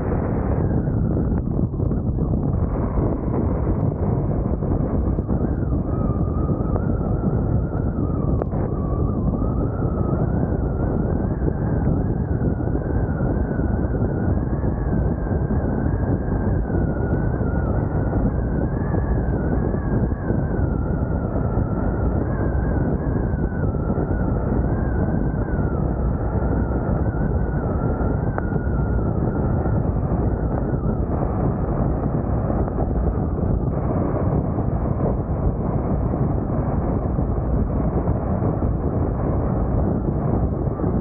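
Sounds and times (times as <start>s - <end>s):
wind and tyre noise in car: 0.0s - 41.0s.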